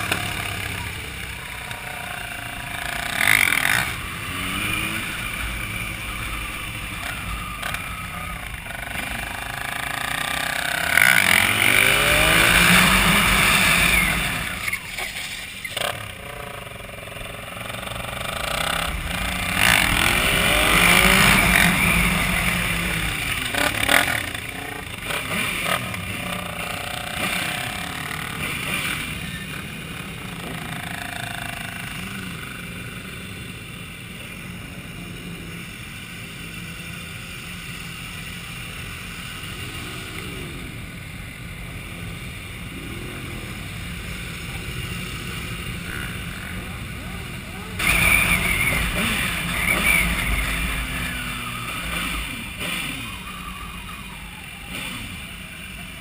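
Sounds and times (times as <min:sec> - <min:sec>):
motorcycle engine accelerating: 0:00.0 - 0:56.0
other motorcycles: 0:00.0 - 0:56.0.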